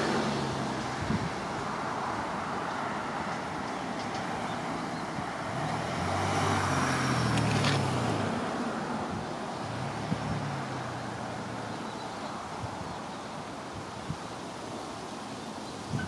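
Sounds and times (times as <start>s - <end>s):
vehicle engine hum passing: 0.0s - 13.6s
outdoor background hiss: 0.0s - 16.0s.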